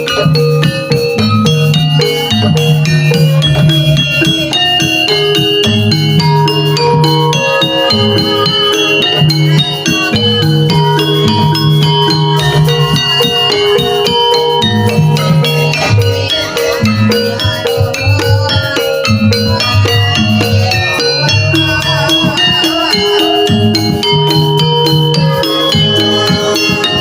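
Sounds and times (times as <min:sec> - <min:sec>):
pitched metal percussion: 0:00.0 - 0:27.0
wavering melody line: 0:00.0 - 0:27.0.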